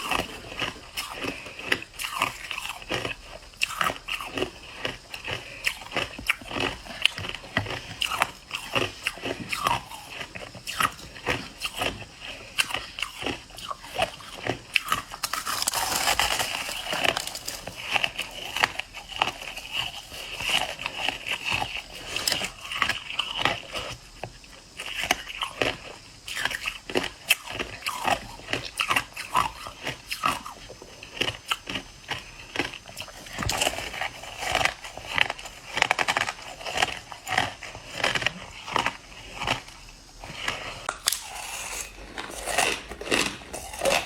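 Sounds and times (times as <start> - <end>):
crushed ice being chewed: 0.0 - 44.0.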